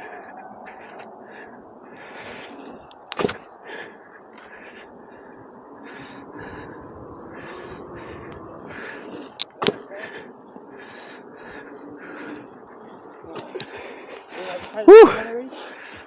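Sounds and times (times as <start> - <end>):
heavy hard breathing: 0.0 - 16.0.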